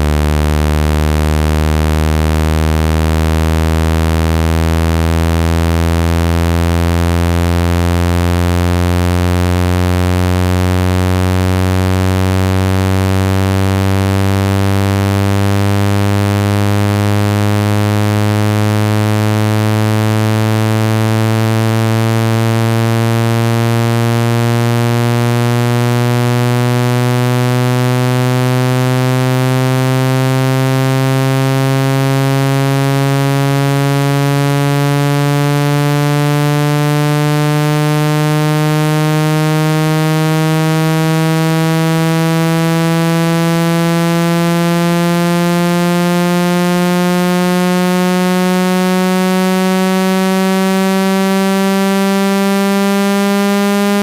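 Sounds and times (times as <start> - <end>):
buzzy electronic tone rising in pitch: 0.0 - 54.0.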